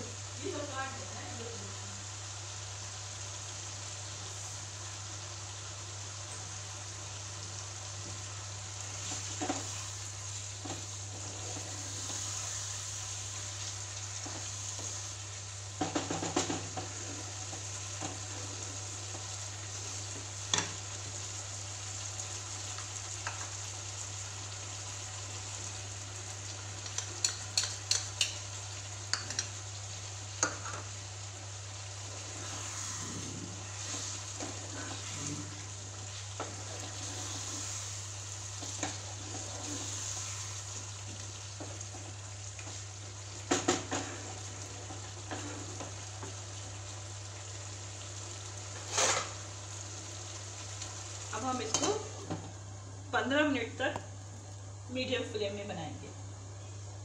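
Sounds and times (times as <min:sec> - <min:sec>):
food sizzling in a pot: 0:00.0 - 0:57.0.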